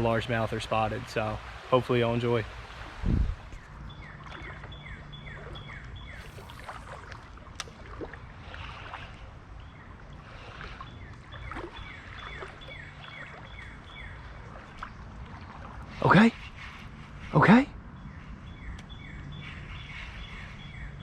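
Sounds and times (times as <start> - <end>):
creek water running: 0.0 - 21.0.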